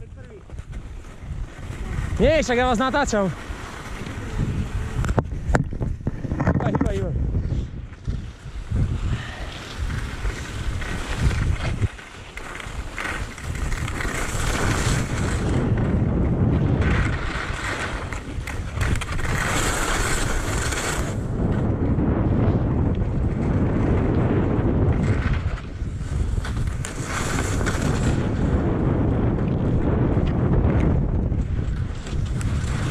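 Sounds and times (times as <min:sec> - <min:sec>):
skis scraping on snow: 0:00.0 - 0:21.7, 0:23.0 - 0:32.9
wind buffeting microphone: 0:00.0 - 0:32.9.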